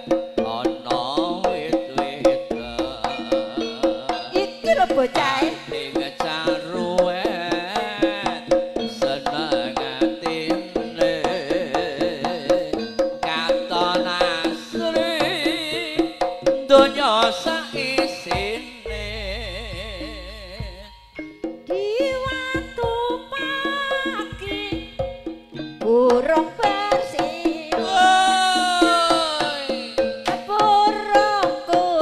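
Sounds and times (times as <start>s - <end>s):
hand drum patterns: 0.0s - 32.0s
gamelan ensemble playing: 1.0s - 31.0s.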